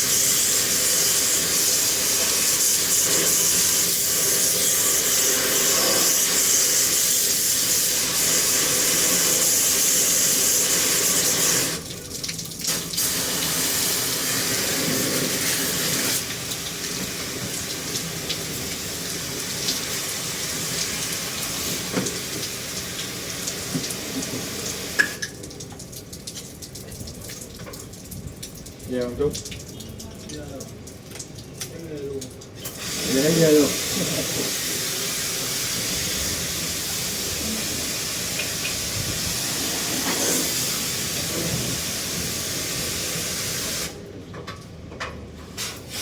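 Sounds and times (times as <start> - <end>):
water spray hissing and splashing: 0.0 - 44.0, 45.6 - 46.0.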